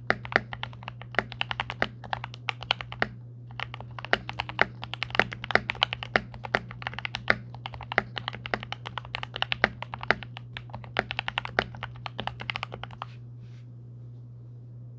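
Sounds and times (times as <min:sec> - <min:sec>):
mechanical keyboard typing: 0:00.0 - 0:13.1
steady low hum: 0:00.0 - 0:14.9.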